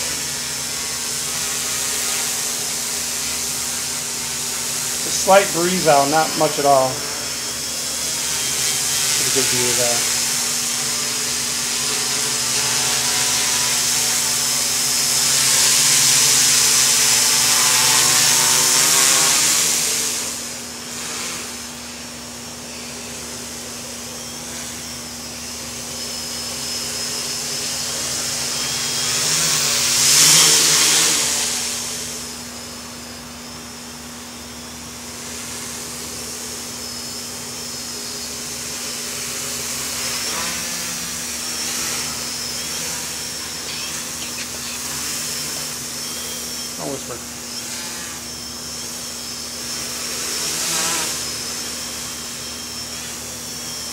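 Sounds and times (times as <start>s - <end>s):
quadcopter motors buzzing: 0.0s - 53.9s.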